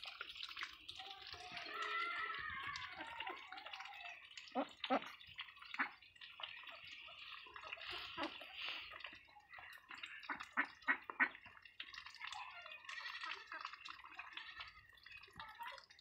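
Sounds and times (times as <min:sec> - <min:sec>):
ducks slurping wet feed: 0:00.0 - 0:16.0.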